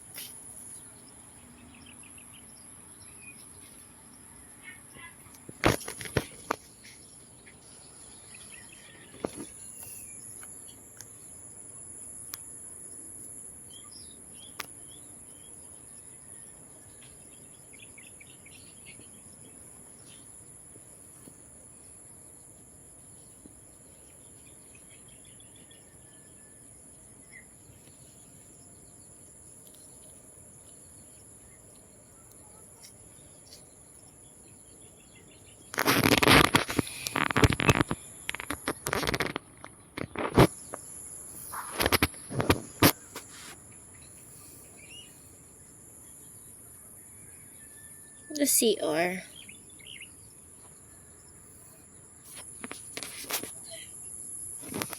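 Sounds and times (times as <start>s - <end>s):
insects droning: 0.0s - 54.9s.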